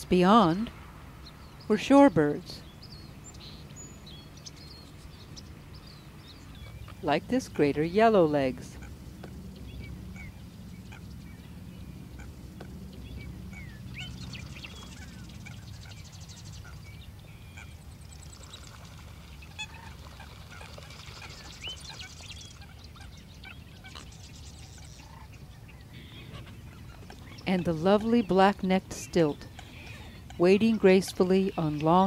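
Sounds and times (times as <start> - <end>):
low steady rumble: 0.0 - 32.0
ducks and geese calling: 3.3 - 32.0.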